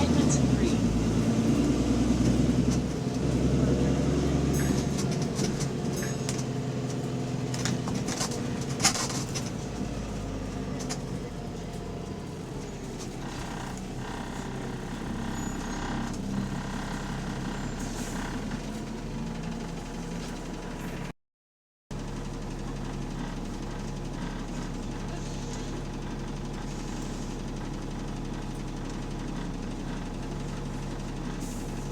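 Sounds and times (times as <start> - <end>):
bus engine humming: 0.0 - 21.1, 22.0 - 31.9.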